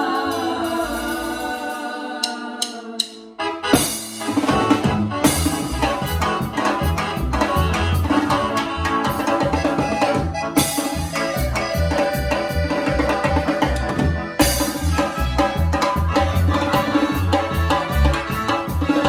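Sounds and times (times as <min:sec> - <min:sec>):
latin band music: 0:00.0 - 0:19.0.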